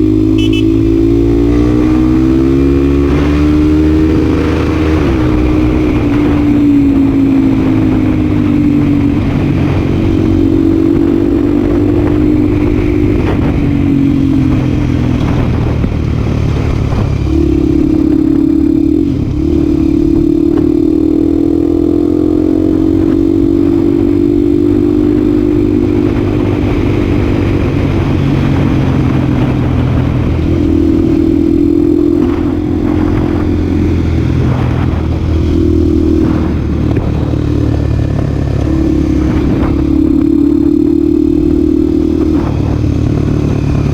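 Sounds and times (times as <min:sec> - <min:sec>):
motorcycle engine at full throttle: 0:00.0 - 0:43.9.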